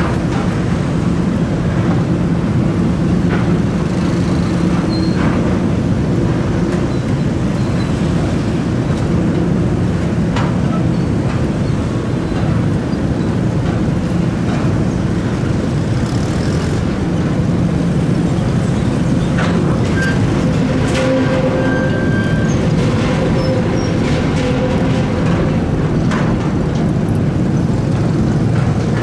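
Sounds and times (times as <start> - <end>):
boat engine rumbling: 0.0 - 29.0
water and wind noise: 0.0 - 29.0.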